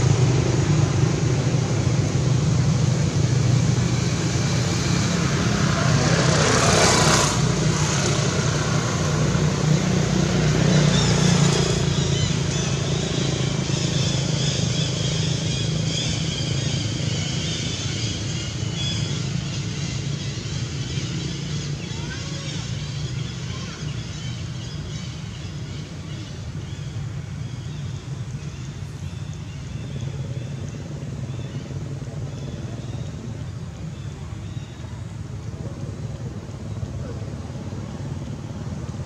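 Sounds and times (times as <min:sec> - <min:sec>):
rush of noise: 0:00.0 - 0:39.0.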